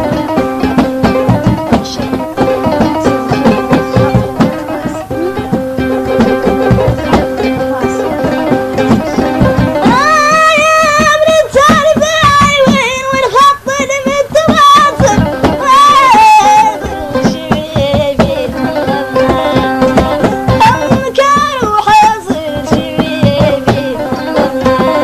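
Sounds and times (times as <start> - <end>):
hand drum beat: 0.0 - 25.0
person singing ornamented vocals: 0.0 - 25.0
plucked strings: 0.0 - 25.0.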